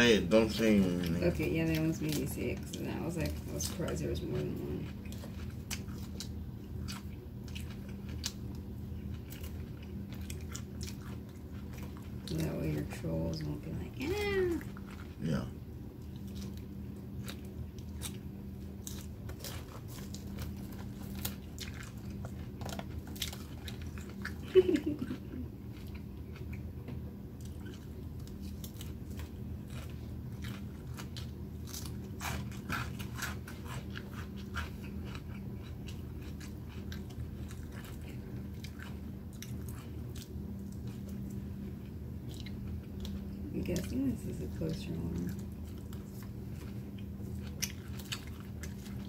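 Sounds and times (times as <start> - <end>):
steady low hum: 0.0 - 49.0
chewing crunchy salad: 0.1 - 49.0.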